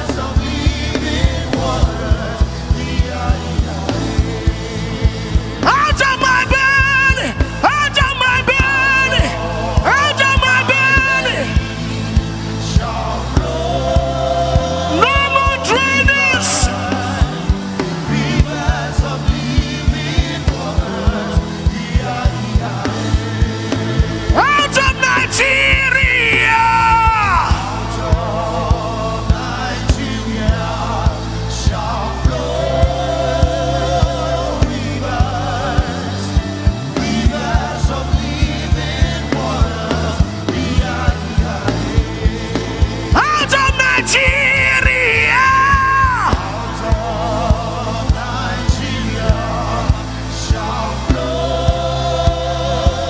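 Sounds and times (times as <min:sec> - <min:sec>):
keyboard and bass chords: 0:00.0 - 0:53.0
steady drum beat: 0:00.0 - 0:53.0
voices singing gospel: 0:00.0 - 0:53.0
worship band music: 0:00.0 - 0:53.0.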